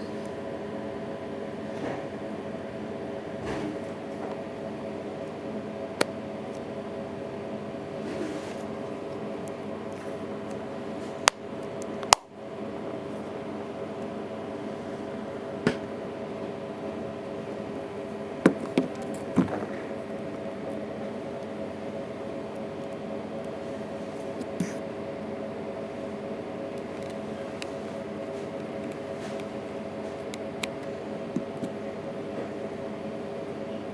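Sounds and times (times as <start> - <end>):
steady electrical hum: 0.0 - 33.9.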